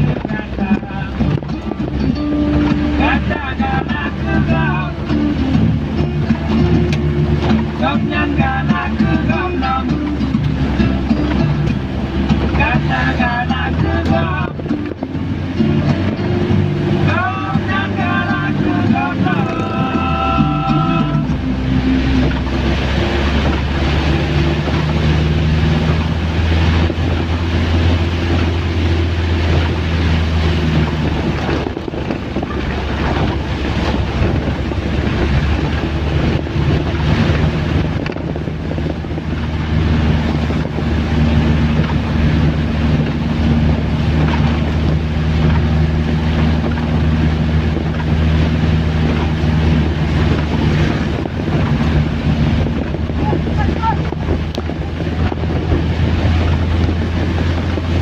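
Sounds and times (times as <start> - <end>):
heavy rain pouring: 0.0 - 58.0
low engine-like hum: 0.0 - 58.0.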